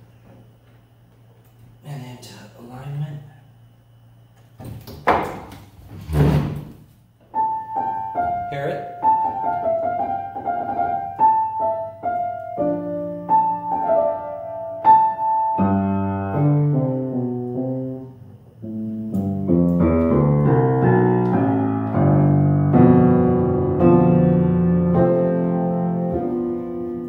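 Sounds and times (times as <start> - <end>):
acoustic piano: 4.7 - 27.0.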